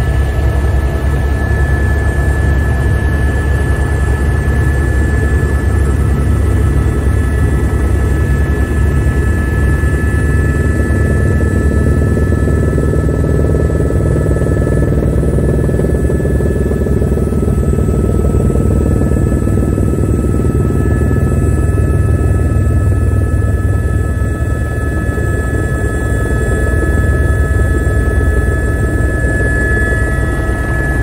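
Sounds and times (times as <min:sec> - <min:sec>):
helicopter rotor beat: 0:00.0 - 0:31.0.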